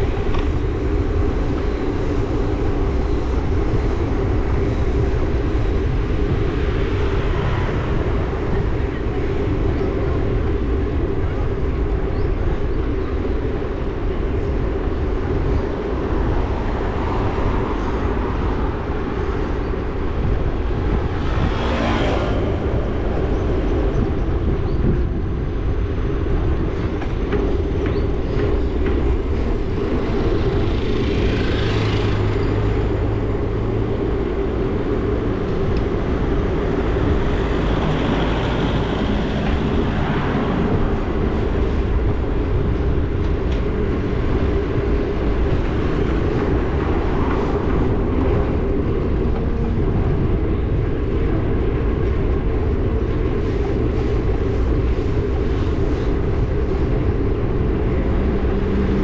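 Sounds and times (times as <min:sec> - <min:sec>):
passing traffic: 0:00.0 - 0:59.0
road rumble: 0:00.0 - 0:59.0
wind noise: 0:00.0 - 0:59.0.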